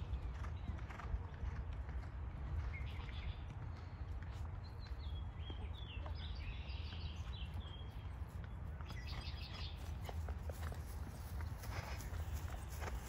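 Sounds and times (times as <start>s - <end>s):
horse hoofbeats on grass: 0.1s - 13.0s.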